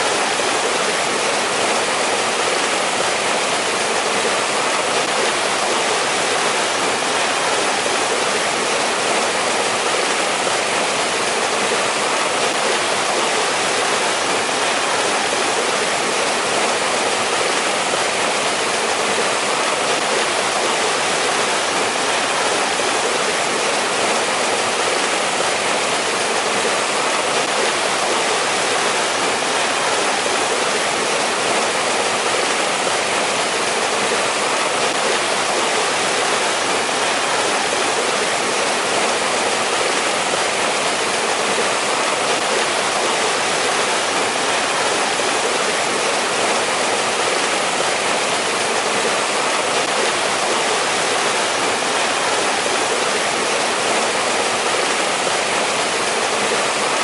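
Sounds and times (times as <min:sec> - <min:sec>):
stream water rushing over rocks: 0:00.0 - 0:57.0.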